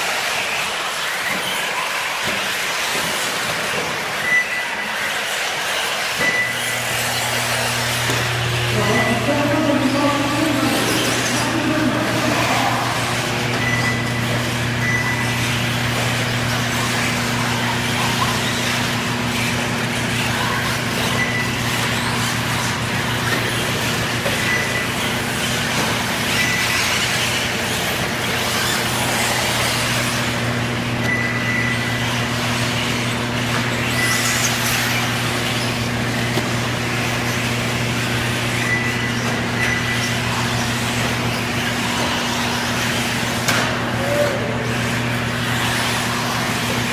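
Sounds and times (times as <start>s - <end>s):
rc cars racing: 0.0s - 46.9s.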